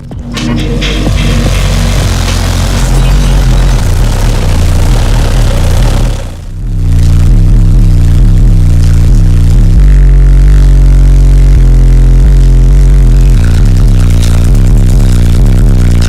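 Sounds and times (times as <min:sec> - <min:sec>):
subwoofer bass-heavy music: 0:00.0 - 0:16.0.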